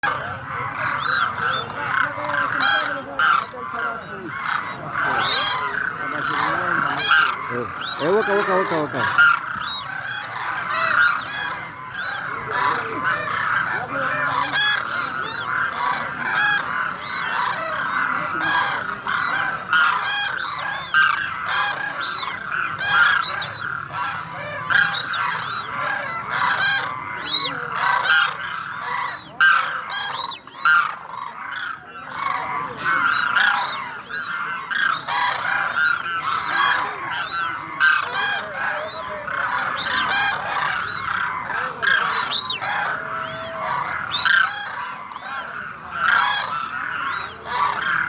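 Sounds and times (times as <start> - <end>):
cranes honking: 0.0 - 48.0.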